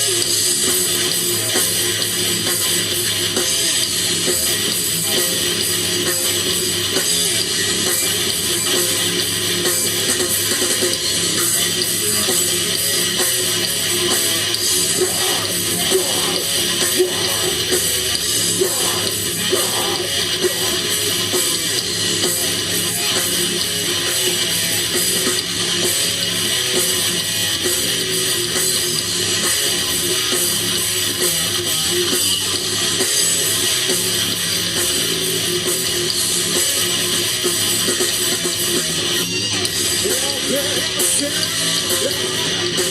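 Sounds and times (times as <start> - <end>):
bass: 0.0 - 42.9
distorted electric guitar: 0.0 - 42.9
drums: 0.0 - 42.9.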